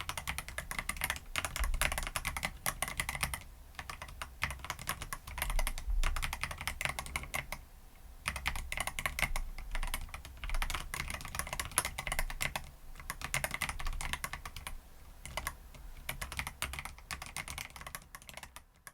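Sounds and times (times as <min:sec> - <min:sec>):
mechanical keyboard typing: 0:00.0 - 0:07.6, 0:08.2 - 0:18.9.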